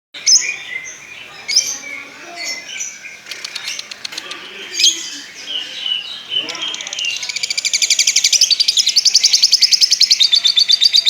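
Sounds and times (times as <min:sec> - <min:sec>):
lovebird chirping: 0:00.2 - 0:11.0
clicking chatter: 0:00.4 - 0:11.0.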